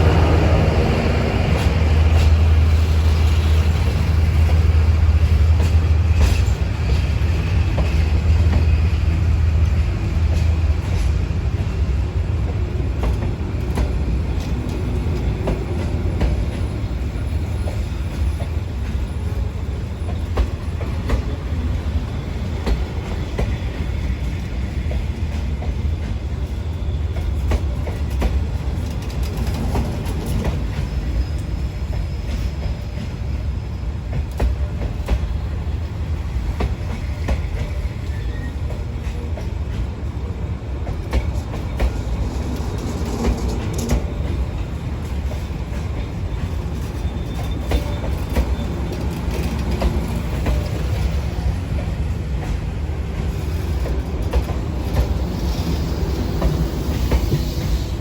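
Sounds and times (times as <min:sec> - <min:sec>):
train coach rumbling: 0:00.0 - 0:58.0.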